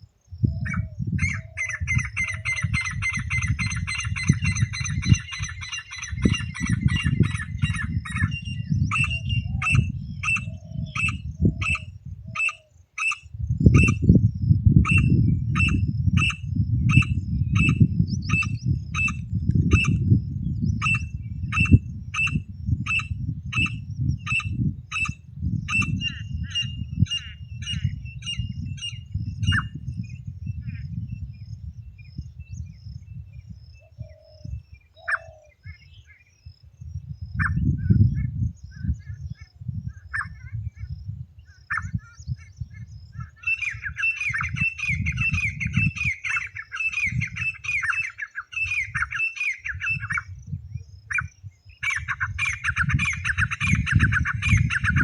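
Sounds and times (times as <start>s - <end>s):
francolin calls: 0.3s - 36.6s, 37.2s - 55.0s.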